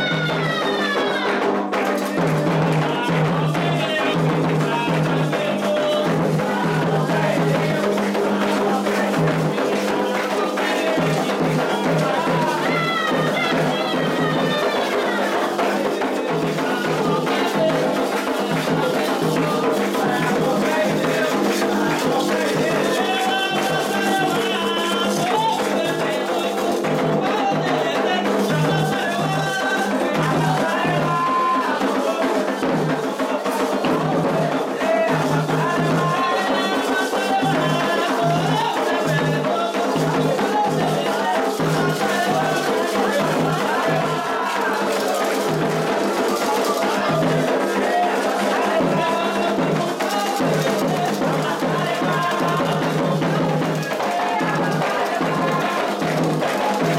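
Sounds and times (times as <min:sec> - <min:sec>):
hand drums in steady rhythm: 0:00.0 - 0:56.9
voices singing: 0:00.0 - 0:56.9
shaker rattle: 0:01.6 - 0:56.9.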